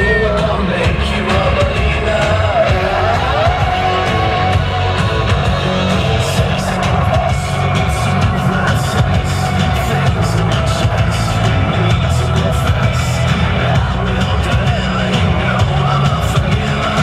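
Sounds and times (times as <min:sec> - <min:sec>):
loud music with strong bass: 0:00.0 - 0:17.0.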